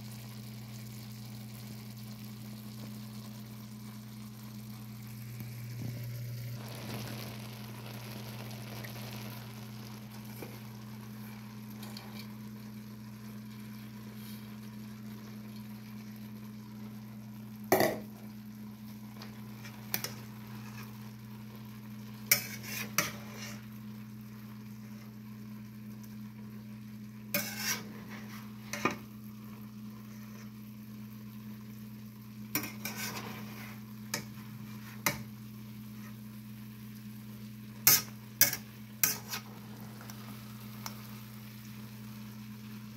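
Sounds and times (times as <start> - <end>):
food sizzling in wok: 0.0 - 42.9.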